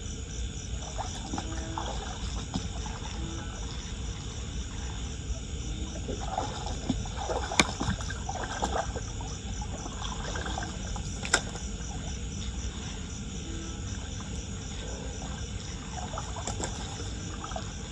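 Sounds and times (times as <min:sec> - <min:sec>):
water sloshing and trickling: 0:00.8 - 0:05.2, 0:05.9 - 0:17.9.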